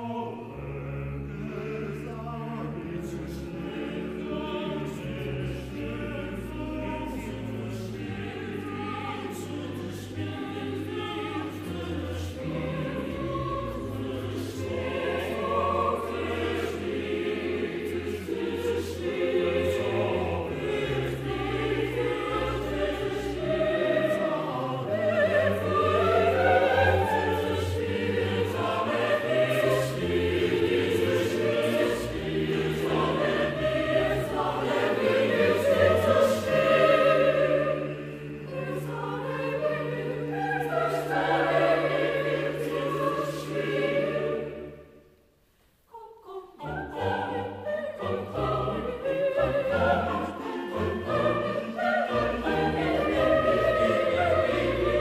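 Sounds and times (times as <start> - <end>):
choir singing: 0.0 - 45.3, 45.9 - 55.0.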